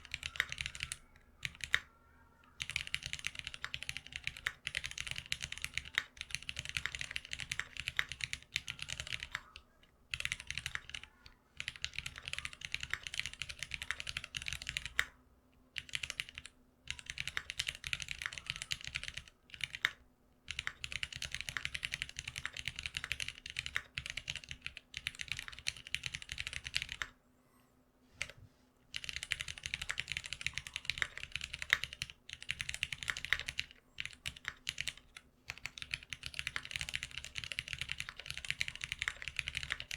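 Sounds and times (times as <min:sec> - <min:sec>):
mechanical keyboard typing: 0:00.0 - 0:15.2, 0:15.8 - 0:27.2, 0:28.2 - 0:39.9.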